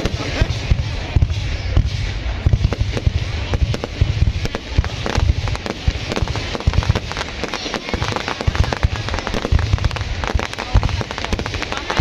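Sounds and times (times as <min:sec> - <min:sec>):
fireworks bangs and crackling: 0:00.0 - 0:12.0
low booms: 0:00.0 - 0:12.0.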